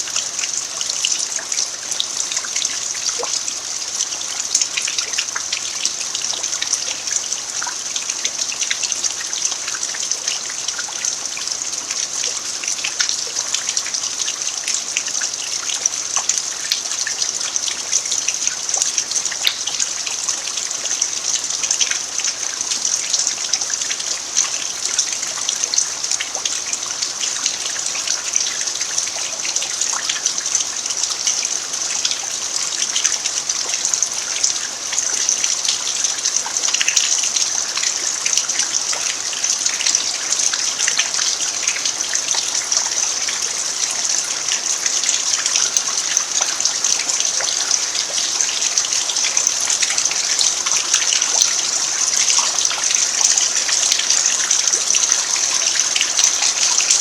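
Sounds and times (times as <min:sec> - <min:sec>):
rain falling on dirt: 0:00.0 - 0:57.0
water trickling: 0:00.0 - 0:57.0.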